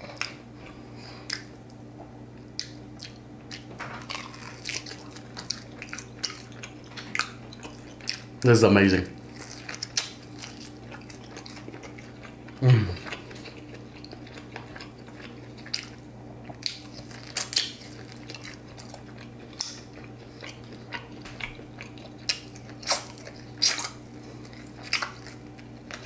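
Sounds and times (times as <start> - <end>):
faint steady hum: 0.0 - 26.0
wet chewing and lip smacks: 0.1 - 8.4, 9.2 - 26.0.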